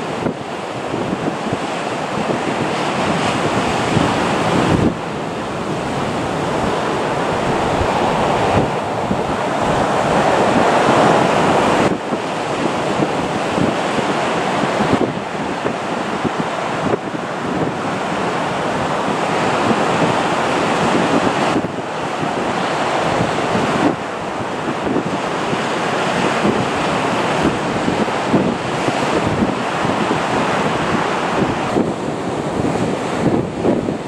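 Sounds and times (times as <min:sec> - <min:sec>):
jet engine roar: 0:00.0 - 0:34.0
wind buffeting microphone: 0:00.0 - 0:34.0.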